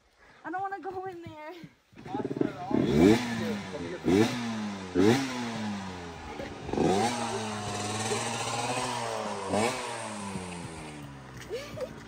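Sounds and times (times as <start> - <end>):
dirt bike engine revving: 2.0 - 12.0.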